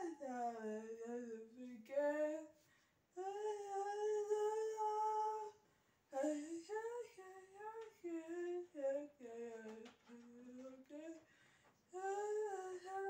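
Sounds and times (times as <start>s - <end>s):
girl singing unaccompanied: 0.0s - 11.3s, 11.9s - 13.0s.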